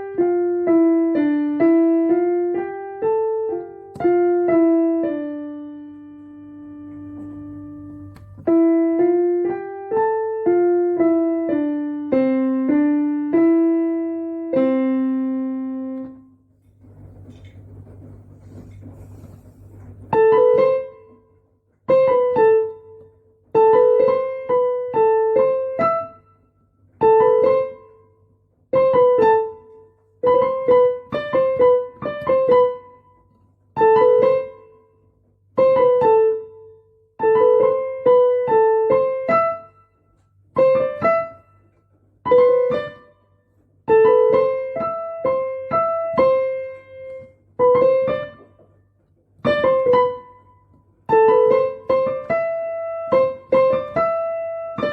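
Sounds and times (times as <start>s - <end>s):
piano melody: 0.0s - 48.8s, 49.4s - 54.9s.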